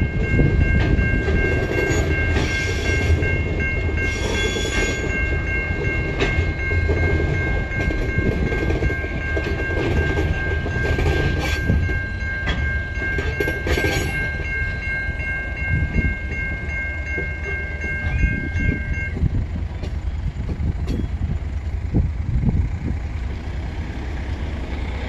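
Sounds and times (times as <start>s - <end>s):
wheels clicking over rail joints: 0.0s - 15.0s, 15.6s - 25.0s
wheel flanges squealing: 0.0s - 21.7s
train wagons rumbling: 0.0s - 25.0s.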